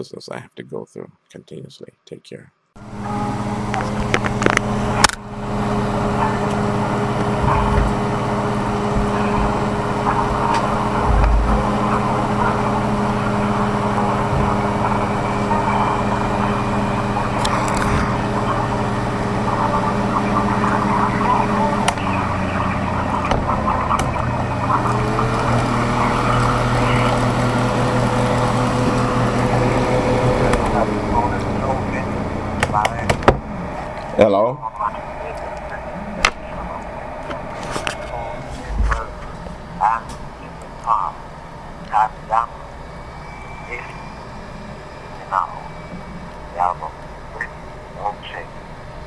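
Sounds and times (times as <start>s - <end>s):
upward gliding tone: 2.8s - 48.4s
low mechanical hum and rumble: 2.8s - 49.0s.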